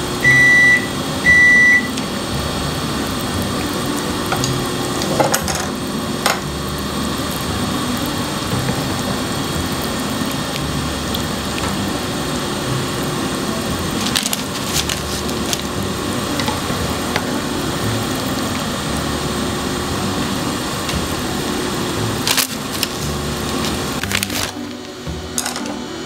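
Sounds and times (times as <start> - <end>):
water boiling in a pan: 0.0 - 25.9.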